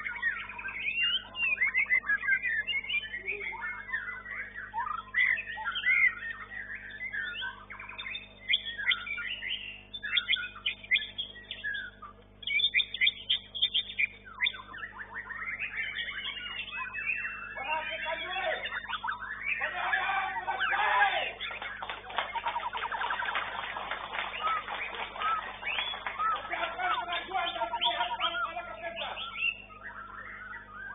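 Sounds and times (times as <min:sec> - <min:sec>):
bird singing whistled phrases: 0:00.0 - 0:30.9.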